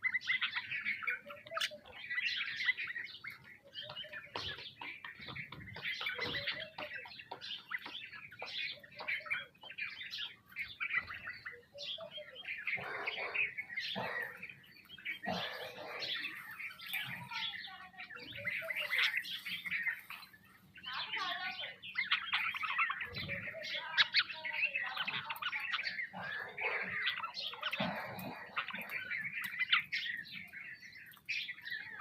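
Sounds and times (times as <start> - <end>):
sparrows chirping: 0.0 - 32.0.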